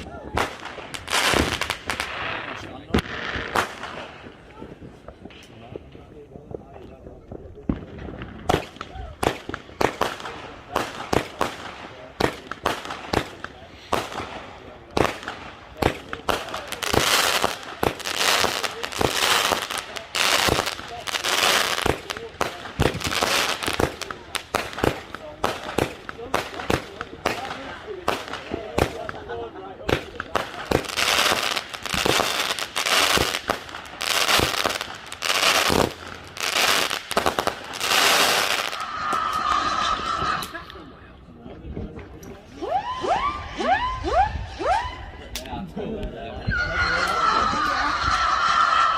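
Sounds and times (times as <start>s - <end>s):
fireworks bangs: 0.0s - 40.8s
fireworks crackling: 0.0s - 41.0s.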